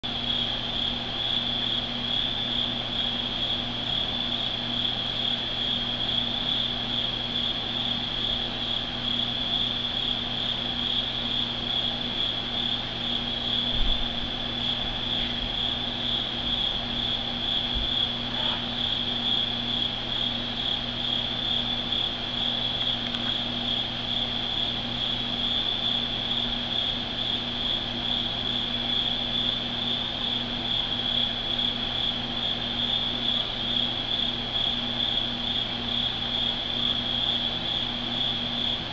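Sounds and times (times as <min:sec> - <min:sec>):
insects trilling: 0:00.1 - 0:38.9.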